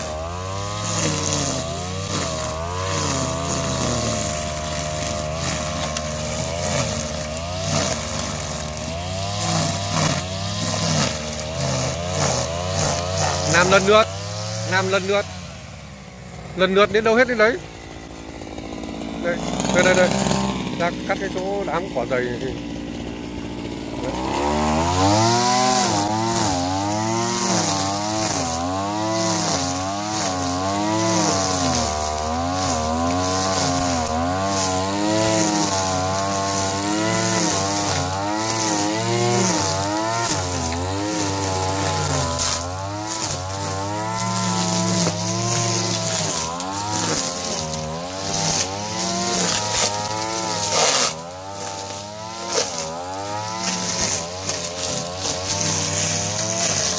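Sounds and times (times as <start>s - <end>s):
brush cutter cutting grass: 0.0s - 56.9s.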